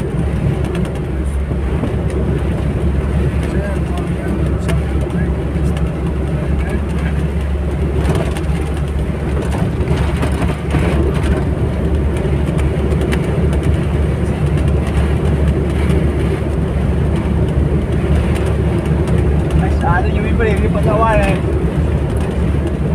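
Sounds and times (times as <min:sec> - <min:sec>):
vehicle road and engine rumble: 0:00.0 - 0:22.9.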